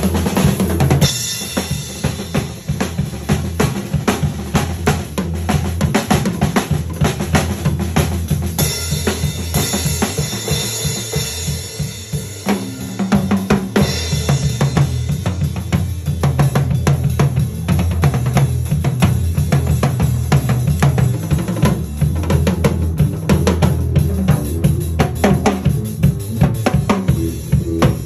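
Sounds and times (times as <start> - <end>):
snare and tom drumming: 0.0 - 28.0.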